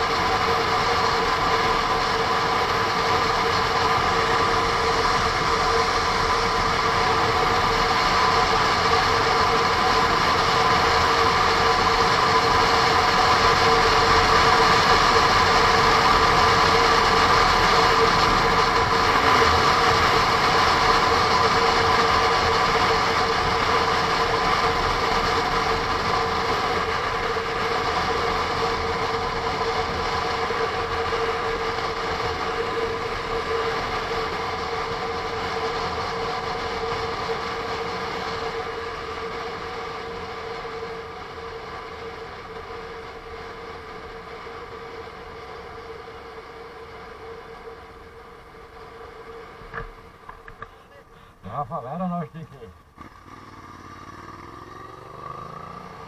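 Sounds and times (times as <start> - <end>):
motorcycle engine cruising: 0.0 - 50.9, 52.0 - 56.0
wind and road rush: 0.0 - 56.0.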